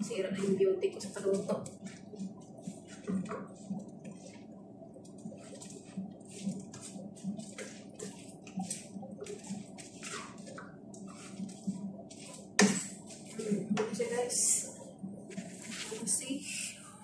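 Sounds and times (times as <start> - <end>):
wooden spoon stirring wet mixture: 0.0 - 16.7
faint steady hum: 0.0 - 17.0.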